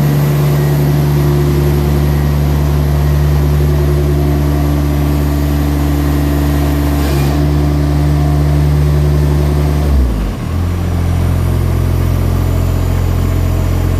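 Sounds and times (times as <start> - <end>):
tractor diesel engine running: 0.0 - 13.9.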